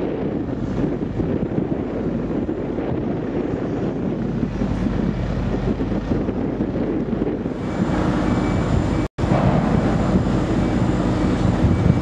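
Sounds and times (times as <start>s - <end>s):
low rumble: 0.0s - 12.0s
wind buffeting microphone: 0.0s - 12.0s.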